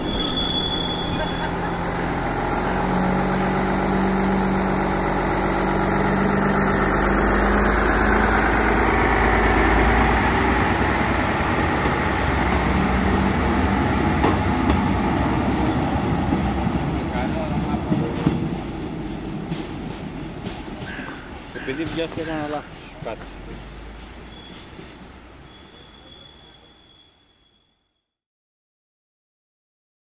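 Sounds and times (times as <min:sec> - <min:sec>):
train diesel engines rumbling: 0:00.0 - 0:27.8.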